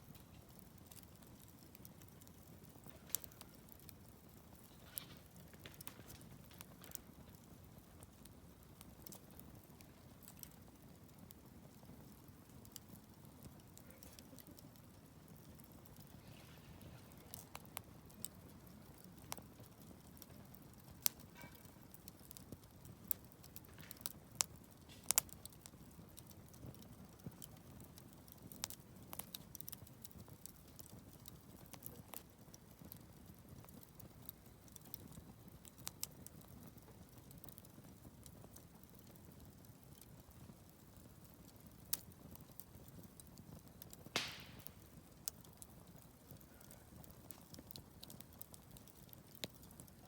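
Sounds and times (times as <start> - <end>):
campfire crackles and pops: 0.0 - 50.0.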